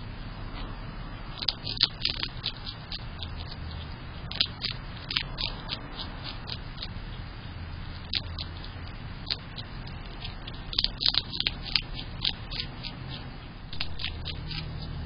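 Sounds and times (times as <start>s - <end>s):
low steady hum: 0.0s - 15.0s
animal crunching seeds: 1.3s - 7.2s, 7.9s - 15.0s.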